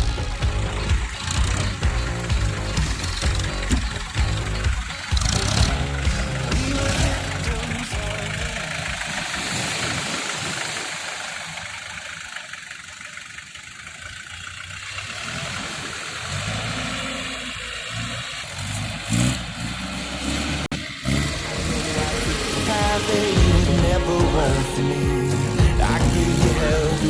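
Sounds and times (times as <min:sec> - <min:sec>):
jeep engine running: 0:00.0 - 0:27.0.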